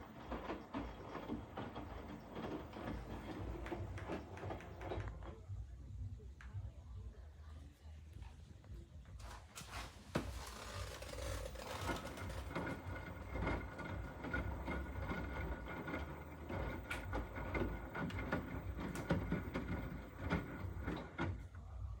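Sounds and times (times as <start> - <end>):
washing machine running: 0.0 - 5.8, 9.2 - 22.0.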